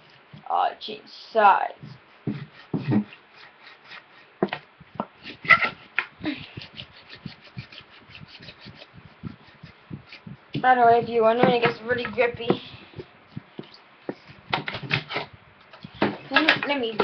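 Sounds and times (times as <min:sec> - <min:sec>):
tape rubbing on stick: 0:01.8 - 0:15.9.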